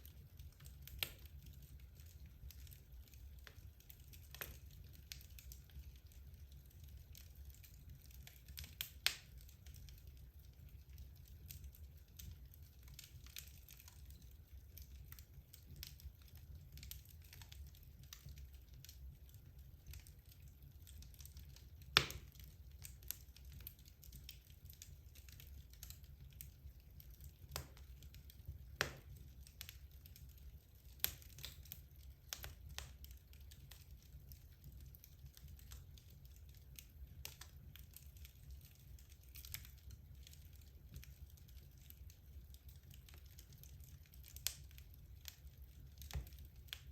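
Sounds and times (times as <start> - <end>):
wood logs crackling in fireplace: 0.0 - 46.9.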